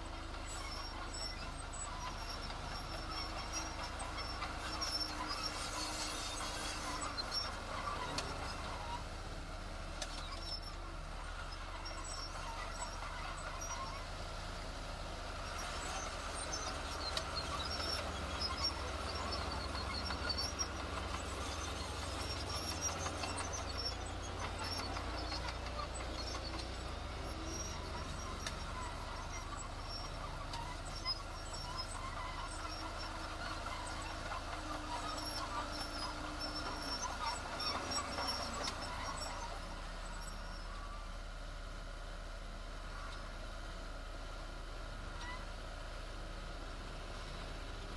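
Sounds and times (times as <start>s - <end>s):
diesel machinery engine rumble: 0.0s - 47.9s.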